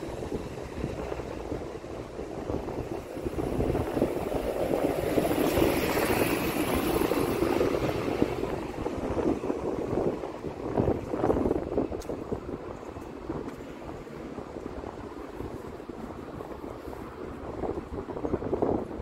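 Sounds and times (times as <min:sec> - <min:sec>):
traffic rumble: 0:00.0 - 0:19.0
wind buffeting microphone: 0:00.0 - 0:19.0.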